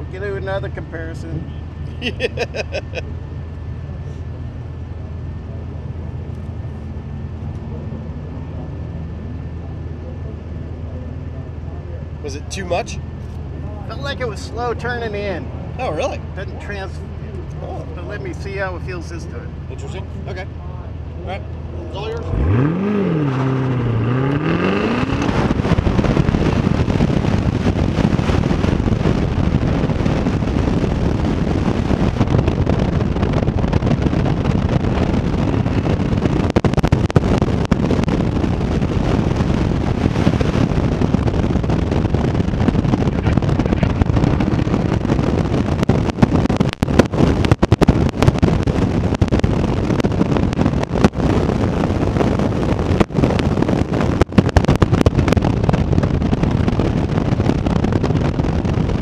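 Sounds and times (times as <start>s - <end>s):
car engine rising and falling: 0.0s - 59.0s
wind rushing over microphone: 0.0s - 59.0s
wind buffets on microphone: 3.9s - 59.0s.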